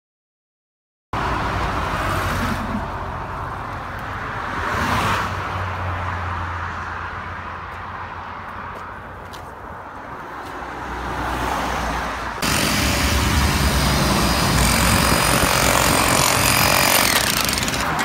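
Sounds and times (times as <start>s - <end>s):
low traffic rumble: 1.2s - 18.0s
vehicles rushing past: 1.2s - 18.0s.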